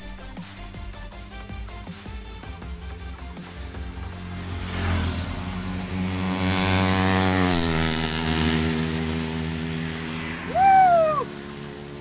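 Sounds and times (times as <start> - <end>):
motorcycle riding past: 0.0 - 12.0.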